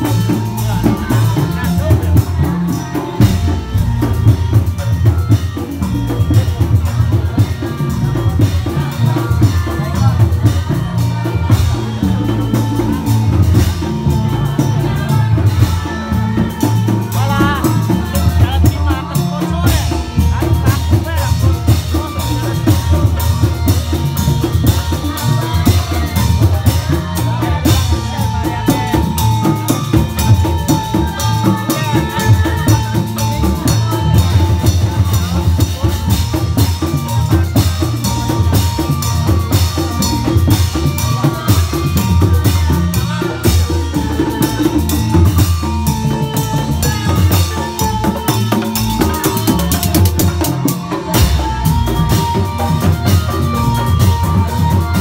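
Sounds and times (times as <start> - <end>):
fast busy drumming: 0.0 - 55.0
sustained keyboard melody: 0.0 - 55.0.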